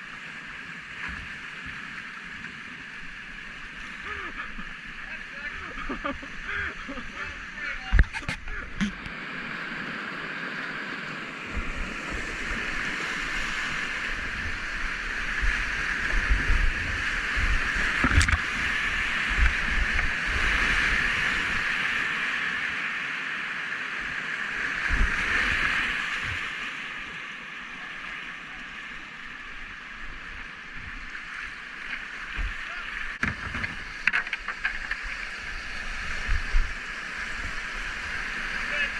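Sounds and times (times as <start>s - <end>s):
whitewater rushing over rocks: 2.9s - 23.6s, 24.2s - 38.9s.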